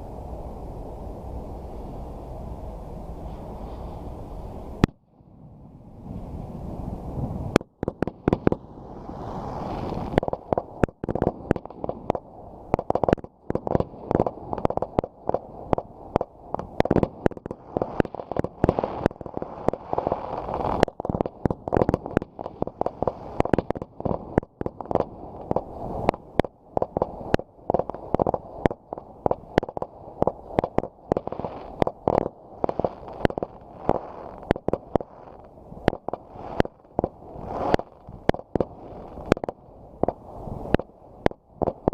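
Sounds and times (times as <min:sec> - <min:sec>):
fireworks bangs and crackles: 0:07.1 - 0:41.9.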